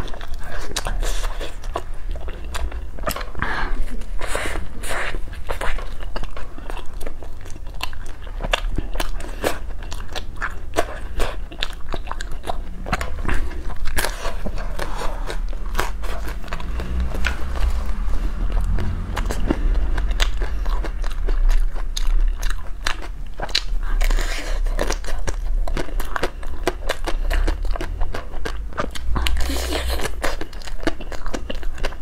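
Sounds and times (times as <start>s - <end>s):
crunching and chewing: 0.0s - 32.0s.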